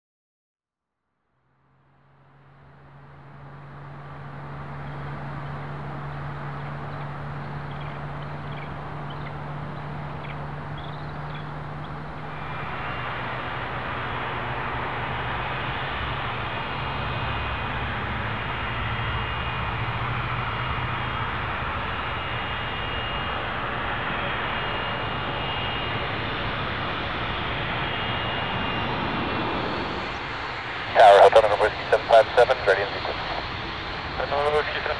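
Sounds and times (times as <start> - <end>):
faint high whine: 1.8 - 34.9
jet engines taxiing: 2.2 - 34.9.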